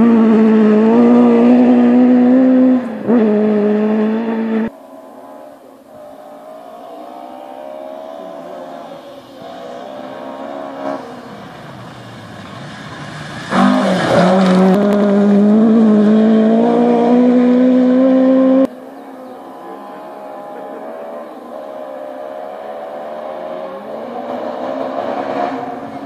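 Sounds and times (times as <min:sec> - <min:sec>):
loud rally car engine: 0:00.0 - 0:26.0
rally car accelerating: 0:00.0 - 0:26.0.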